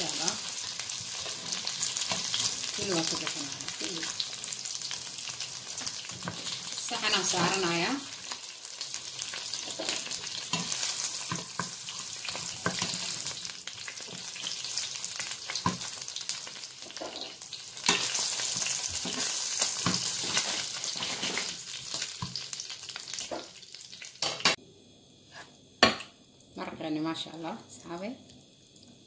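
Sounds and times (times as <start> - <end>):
meatballs sizzling in oil: 0.0 - 24.6.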